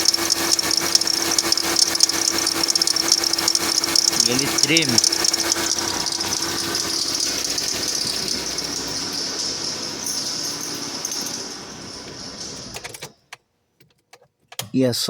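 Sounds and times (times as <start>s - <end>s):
engine idling: 0.0s - 13.0s
high-pitched belt drive noise: 0.0s - 13.1s.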